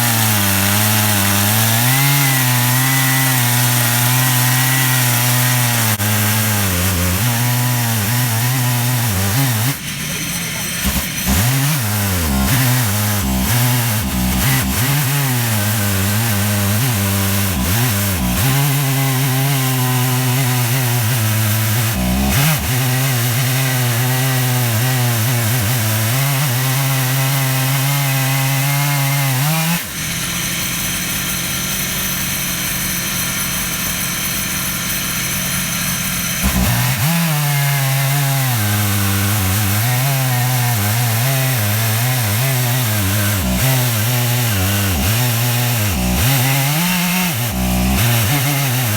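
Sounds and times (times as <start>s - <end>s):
chainsaw cutting log: 0.0s - 48.9s.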